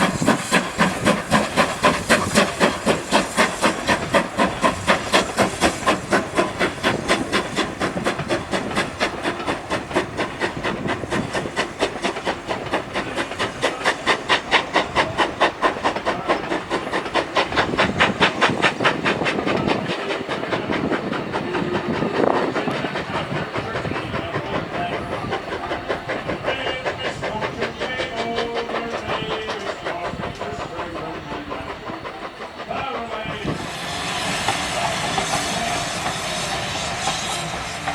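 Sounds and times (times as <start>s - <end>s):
steady steam hiss: 0.0s - 37.9s
steam locomotive exhaust beats: 0.0s - 37.9s.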